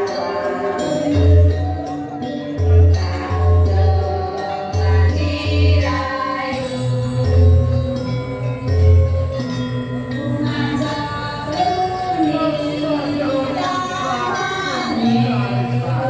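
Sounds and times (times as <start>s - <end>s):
gamelan with pulsing low beat: 0.0s - 16.0s
voices singing together: 0.0s - 16.0s.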